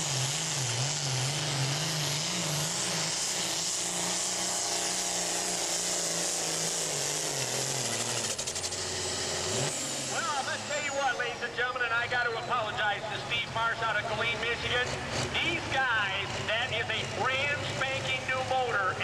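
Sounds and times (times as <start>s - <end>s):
diesel engine running flat out: 0.0s - 19.0s.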